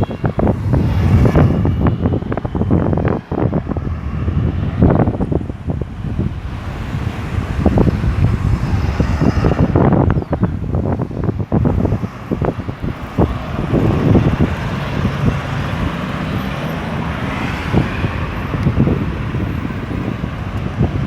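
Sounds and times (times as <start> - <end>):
car and truck engines passing: 0.0 - 21.0
wind buffeting microphone: 0.0 - 21.0.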